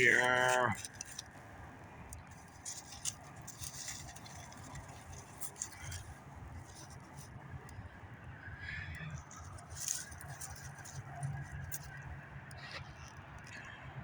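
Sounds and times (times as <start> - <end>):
campfire crackling: 0.0 - 13.8.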